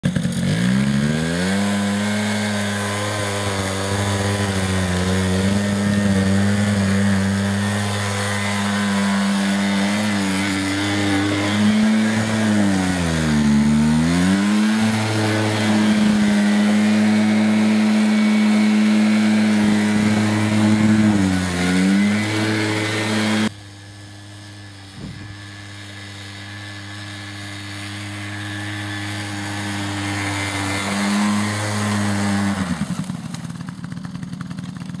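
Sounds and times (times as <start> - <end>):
small quad engine running: 0.0 - 35.0.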